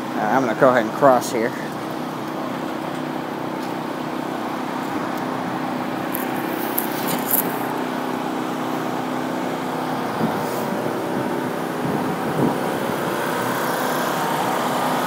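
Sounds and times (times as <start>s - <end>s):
vehicle engine and traffic hum: 0.0s - 15.0s.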